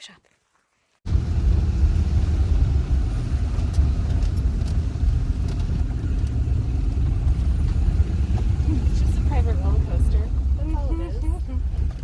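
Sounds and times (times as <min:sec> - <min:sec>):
vehicle engine low rumble: 0:01.1 - 0:12.0.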